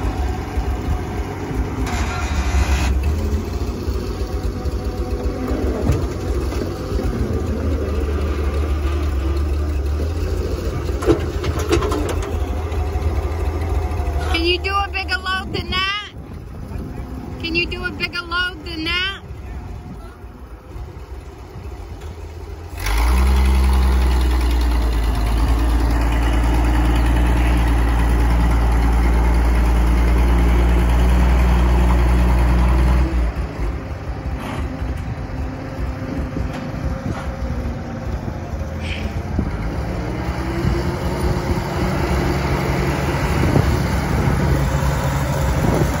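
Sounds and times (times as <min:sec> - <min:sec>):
loader engine revving: 0:00.0 - 0:46.0.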